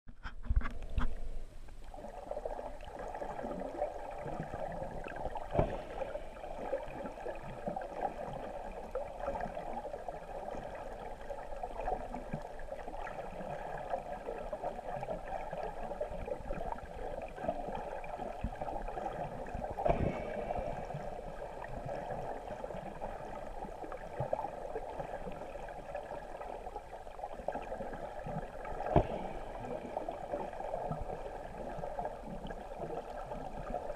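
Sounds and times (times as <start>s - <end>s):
muffled underwater water noise: 0.1s - 33.9s.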